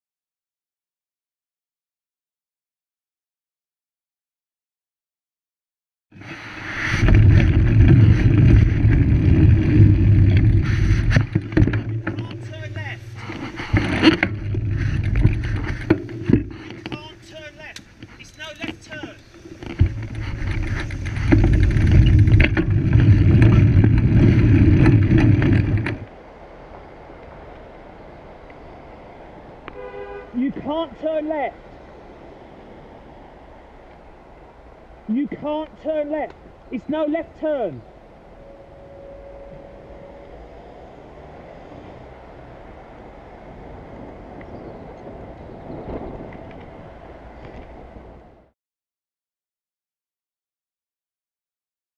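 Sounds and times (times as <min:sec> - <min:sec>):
road and wind noise rumble: 0:06.1 - 0:48.6.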